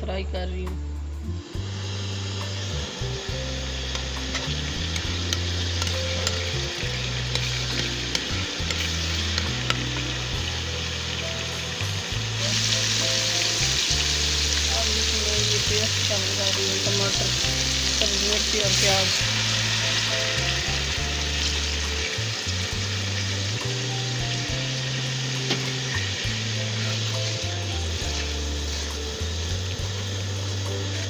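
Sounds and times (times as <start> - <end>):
paste sizzling in hot oil: 1.5 - 31.0.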